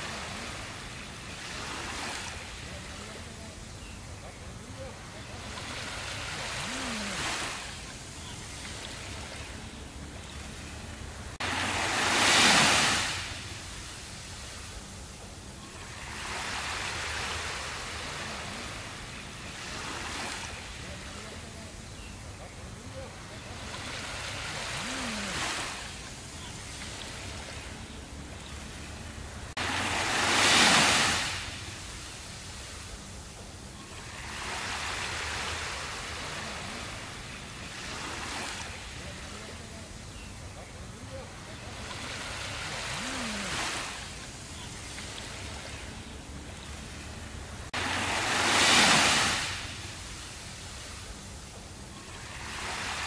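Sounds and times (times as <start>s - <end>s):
small waves lapping on a beach: 0.0s - 53.0s
wave washing up the shore: 0.0s - 53.0s.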